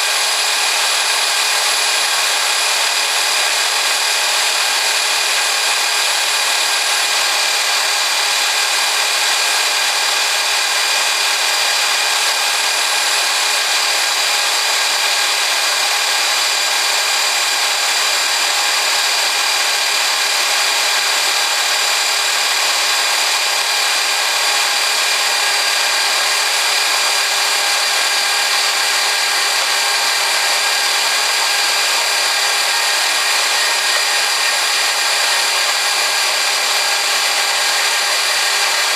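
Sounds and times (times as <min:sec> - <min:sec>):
band saw cutting pipe: 0:00.0 - 0:38.9.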